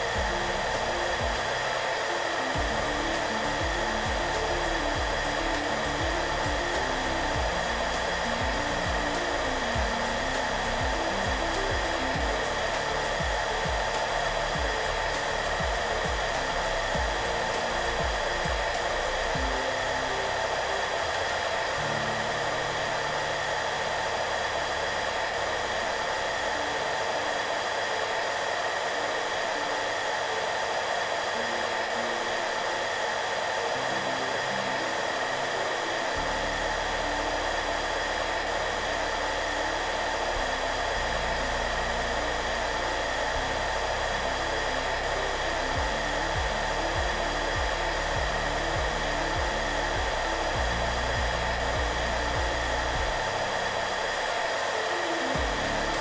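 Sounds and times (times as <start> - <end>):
hair dryer running: 0.0 - 56.0
soft background music: 0.0 - 56.0.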